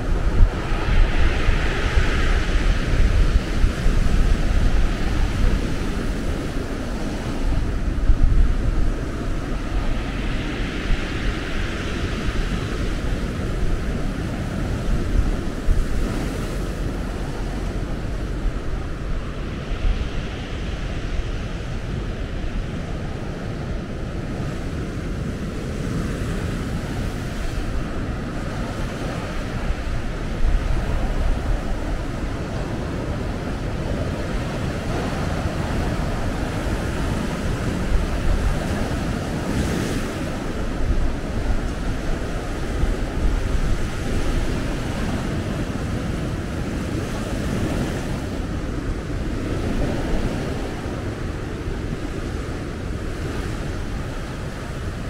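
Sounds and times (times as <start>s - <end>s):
sea waves breaking on beach: 0.0s - 55.0s
wind buffeting microphone: 0.0s - 55.0s.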